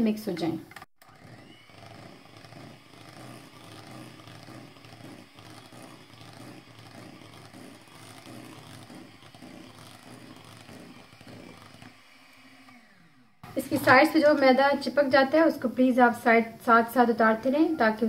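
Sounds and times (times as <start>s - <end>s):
electric hand mixer humming: 0.9s - 18.0s.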